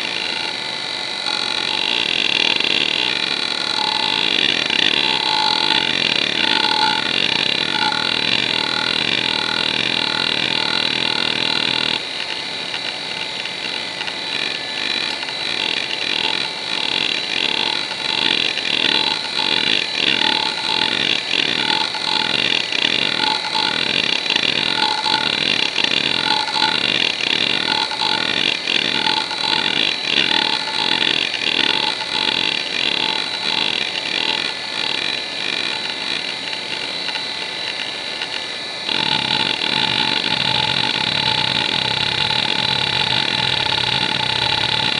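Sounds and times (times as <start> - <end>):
hard drive seek chatter: 0.0 - 44.9
hard drive spinning hum: 0.0 - 44.9.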